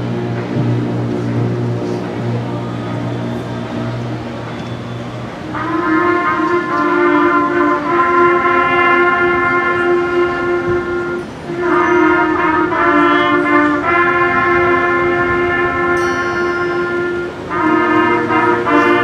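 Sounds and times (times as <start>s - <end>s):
concert band playing chords: 0.0s - 19.0s.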